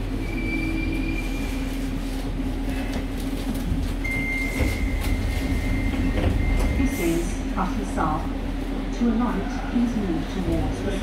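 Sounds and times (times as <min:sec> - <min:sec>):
train humming: 0:00.0 - 0:11.0.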